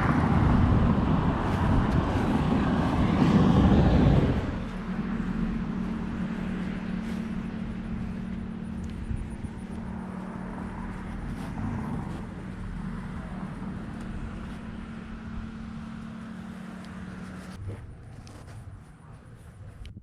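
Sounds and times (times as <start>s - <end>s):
car engine hum: 0.0s - 20.0s
road rumble: 0.0s - 20.0s.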